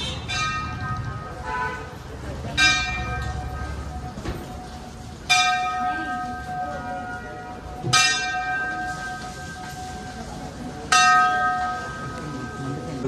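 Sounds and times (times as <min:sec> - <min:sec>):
large brass bell clanging: 0:00.0 - 0:01.8, 0:02.4 - 0:13.0.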